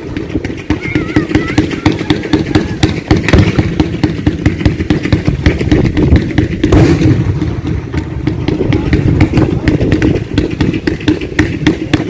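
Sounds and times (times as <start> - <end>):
fireworks bangs and crackles: 0.0 - 12.0
low rumble: 1.6 - 12.0.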